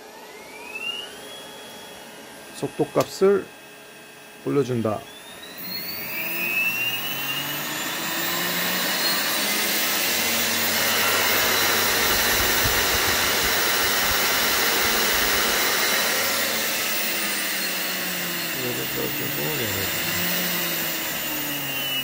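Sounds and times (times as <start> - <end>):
spindle motor whine: 0.0 - 22.0.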